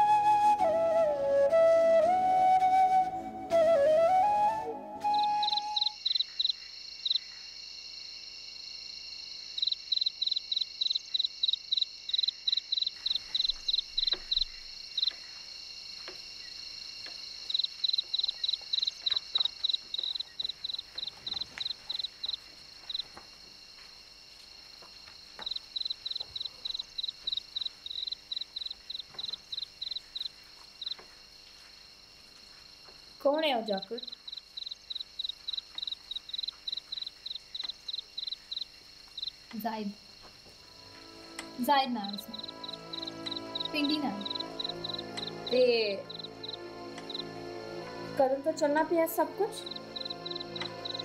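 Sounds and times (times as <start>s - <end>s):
crickets chirping: 0.0s - 51.0s
steady high insect trill: 5.0s - 51.0s.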